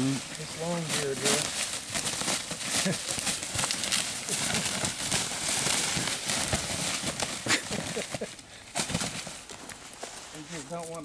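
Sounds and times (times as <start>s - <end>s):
bird thrashing in dry leaves: 0.0s - 11.0s.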